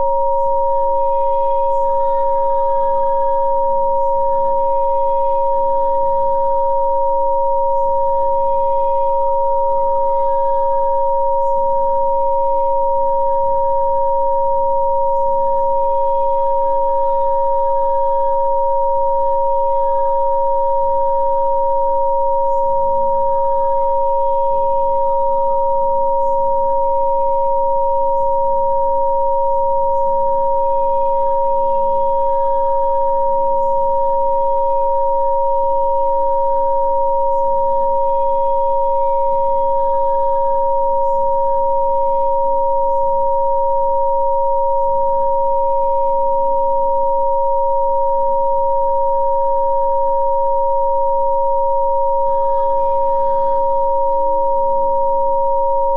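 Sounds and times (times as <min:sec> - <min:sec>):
steady sine tones: 0:00.0 - 0:55.9.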